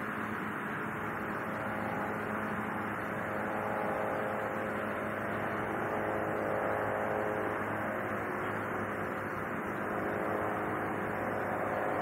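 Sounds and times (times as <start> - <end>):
continuous outdoor rush: 0.0 - 12.0
faint low hum: 0.4 - 12.0.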